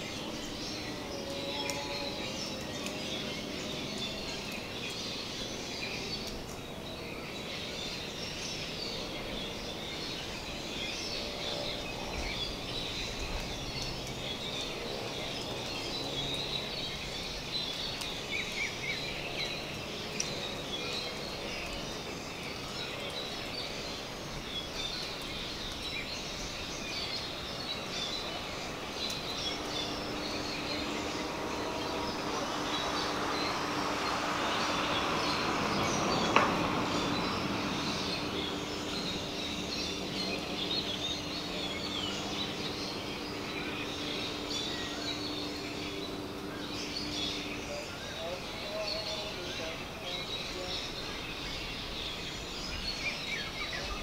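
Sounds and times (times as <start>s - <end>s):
birds chirping: 0.0s - 54.0s
insects chirping: 7.4s - 53.9s.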